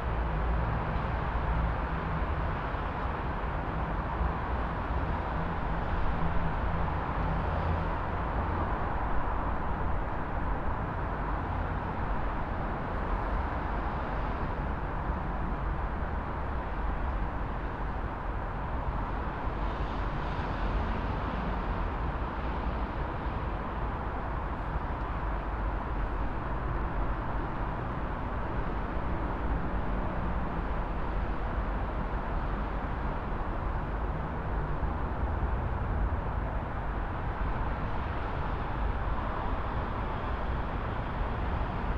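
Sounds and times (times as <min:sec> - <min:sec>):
city traffic rumble: 0:00.0 - 0:41.9.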